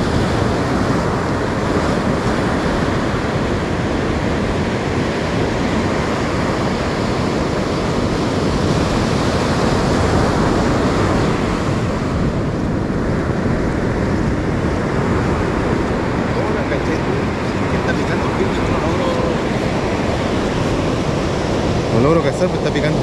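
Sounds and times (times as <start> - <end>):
surf washing on beach: 0.0 - 23.0
wind rumbling on microphone: 0.0 - 23.0.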